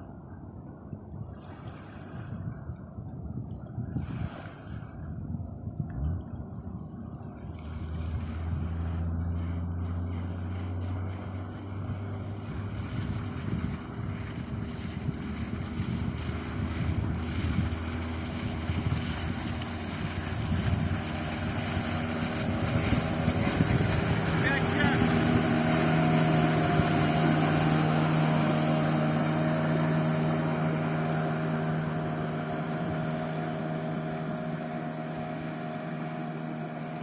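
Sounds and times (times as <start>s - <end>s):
wind on the microphone: 0.0s - 36.5s
outboard motor running: 0.0s - 37.0s
rushing water: 0.0s - 37.0s.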